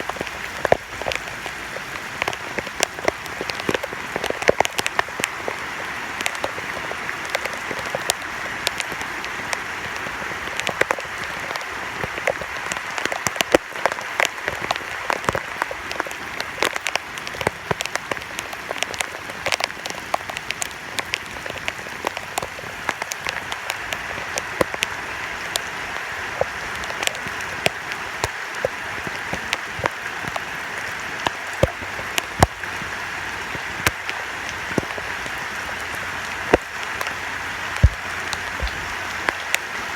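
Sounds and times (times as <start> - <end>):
heavy rain: 0.0 - 39.9
rainwater running down stairs: 0.0 - 39.9.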